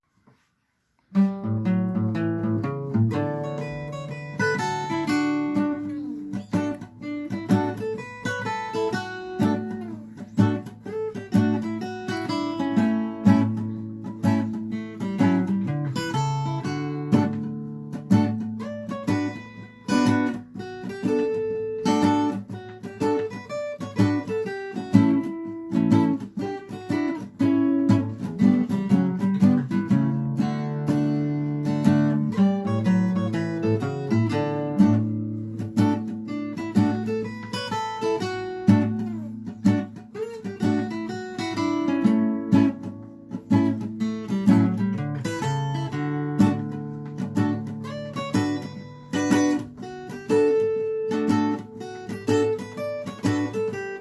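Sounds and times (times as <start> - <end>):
acoustic guitar playing: 0.2 - 54.0.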